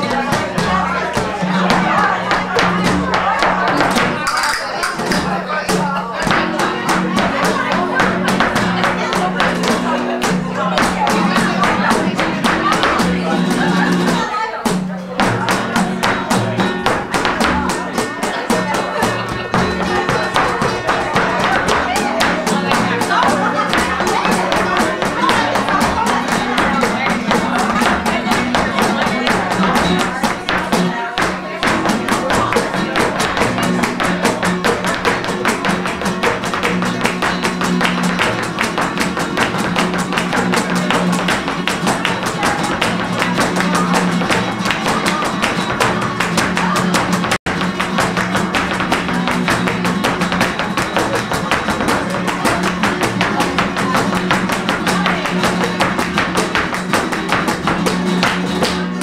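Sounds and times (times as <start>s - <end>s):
flamenco guitar with percussive strikes: 0.0s - 59.0s.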